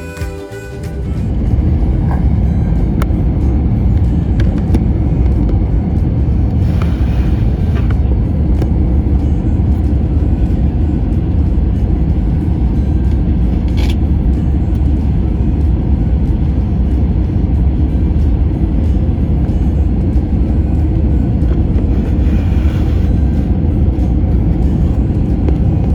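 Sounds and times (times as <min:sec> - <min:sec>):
airliner engines rumbling: 0:00.0 - 0:25.9.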